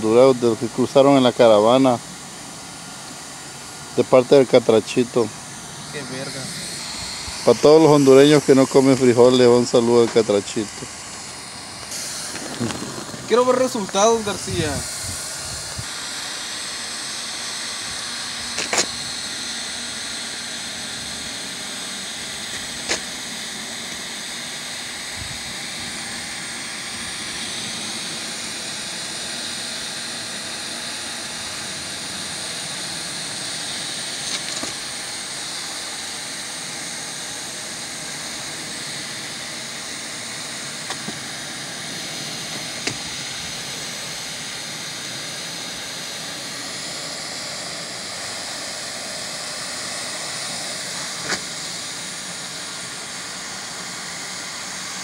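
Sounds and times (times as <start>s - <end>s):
hot-air gun blowing: 0.0s - 55.0s.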